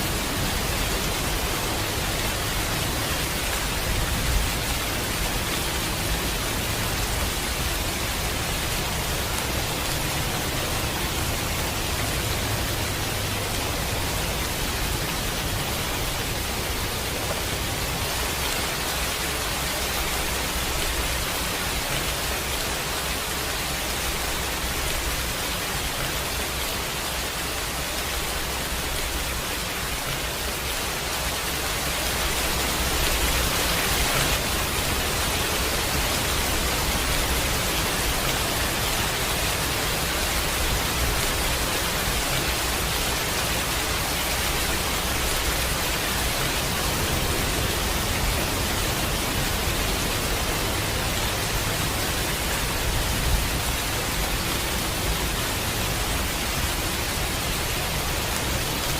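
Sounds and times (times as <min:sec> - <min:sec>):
rain falling steadily: 0:00.0 - 0:58.9.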